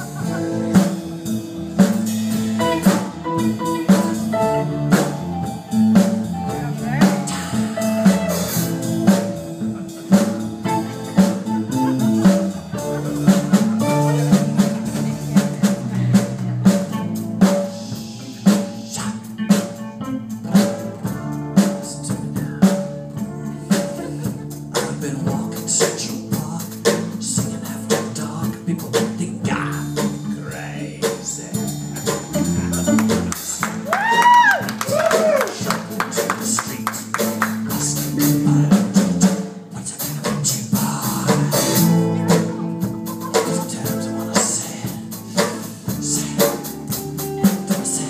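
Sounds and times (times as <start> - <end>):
drum kit beat: 0.0 - 48.0
live band playing: 0.0 - 48.0.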